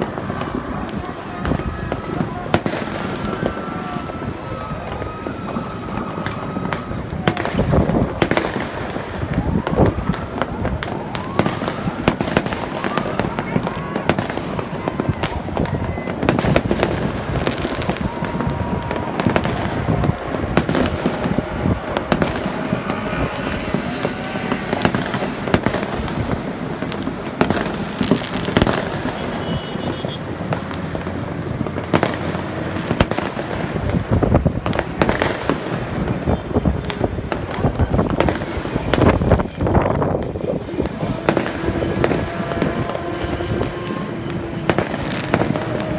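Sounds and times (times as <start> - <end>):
fireworks crackling and popping: 0.0 - 45.9
loud firework booms: 0.0 - 45.9.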